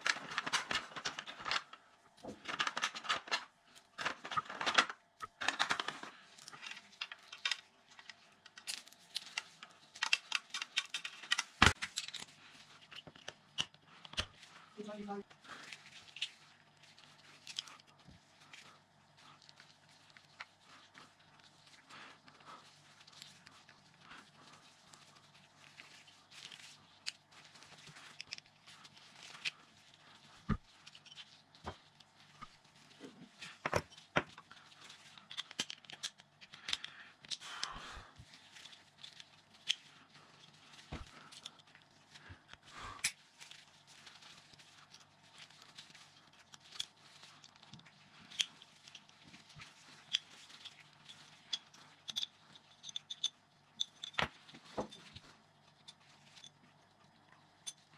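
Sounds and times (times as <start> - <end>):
gloves and paper towel rustling: 0.0 - 57.9.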